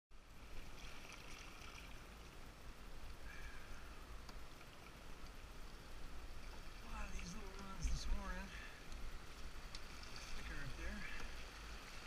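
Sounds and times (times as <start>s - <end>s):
river current rushing and gurgling: 0.1s - 12.0s.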